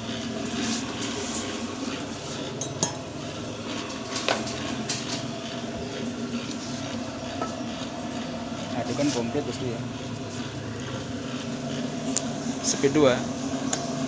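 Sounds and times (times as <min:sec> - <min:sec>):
mixer motor humming: 0:00.0 - 0:14.0.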